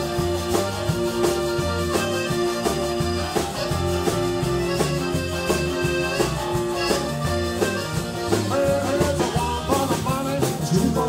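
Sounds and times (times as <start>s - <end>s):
bass line: 0.0s - 11.0s
blues rock band playing: 0.0s - 11.0s
steady drum beat: 0.0s - 11.0s.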